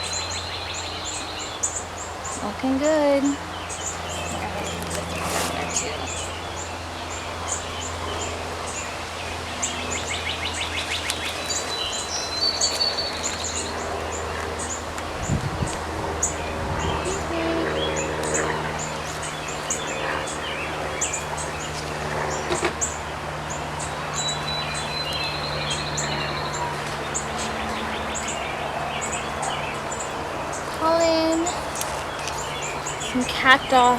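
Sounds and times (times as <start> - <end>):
fast trilled birdsong: 0.0 - 33.9
small birds chirping: 0.0 - 33.9.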